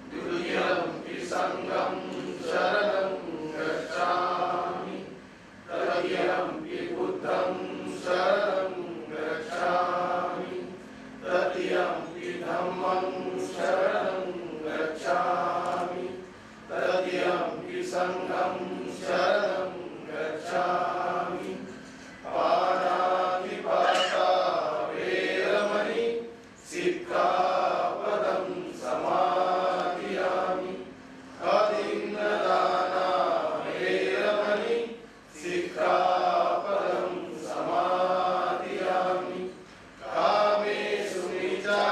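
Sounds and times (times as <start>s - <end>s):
group chanting a prayer: 0.0s - 41.9s.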